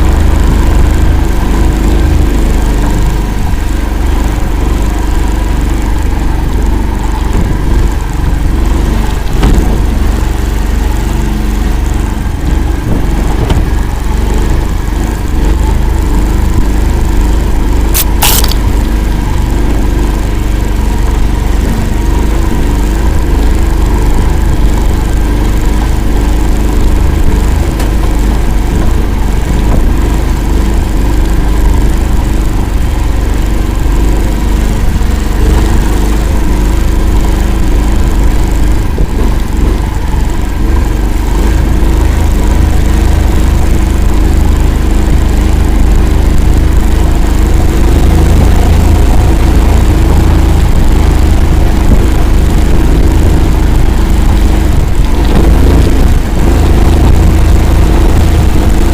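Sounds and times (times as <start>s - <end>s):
all-terrain vehicle engine running: 0.0s - 58.9s.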